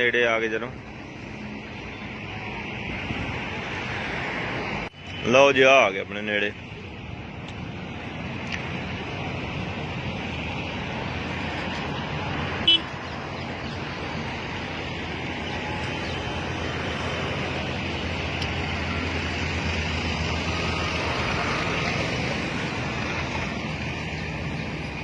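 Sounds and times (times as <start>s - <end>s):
vehicles towing trolleys driving past: 0.0s - 25.0s.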